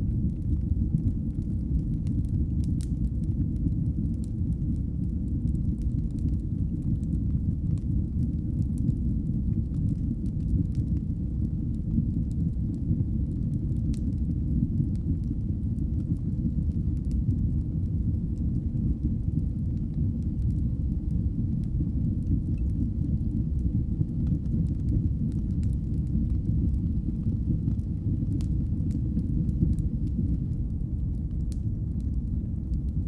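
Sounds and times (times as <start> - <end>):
fire burning in fireplace: 0.0 - 33.0
fire crackles and pops: 0.0 - 33.0.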